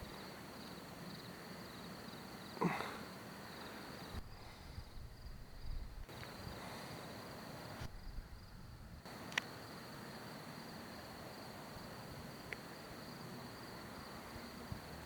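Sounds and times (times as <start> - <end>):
crickets trilling: 0.0 - 15.0
faint hiss: 0.0 - 15.0.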